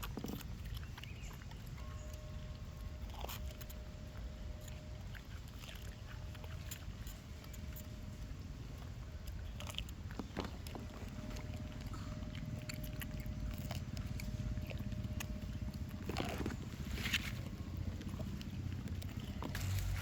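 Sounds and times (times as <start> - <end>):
monkey chewing fruit: 0.0 - 20.0
low rumble: 1.7 - 20.0.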